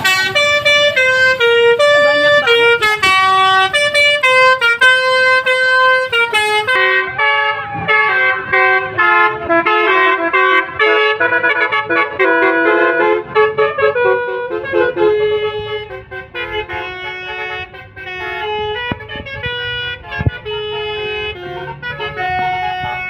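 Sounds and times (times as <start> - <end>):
bus musical horn melody: 0.0 - 23.0.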